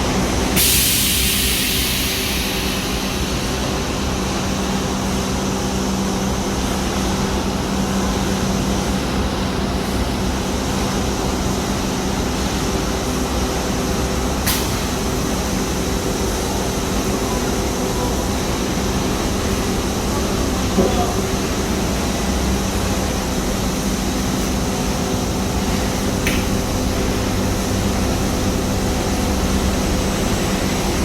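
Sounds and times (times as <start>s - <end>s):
production line machinery din: 0.0s - 31.0s.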